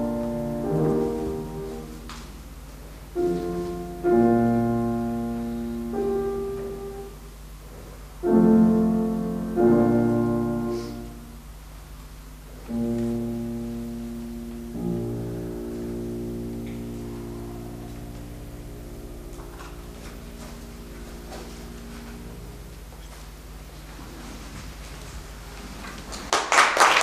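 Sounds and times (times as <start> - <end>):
grand piano playing slow chords: 0.0 - 25.7.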